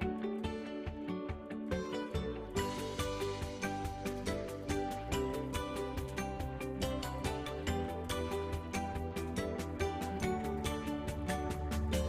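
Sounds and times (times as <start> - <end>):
plucked melody music: 0.0 - 12.0.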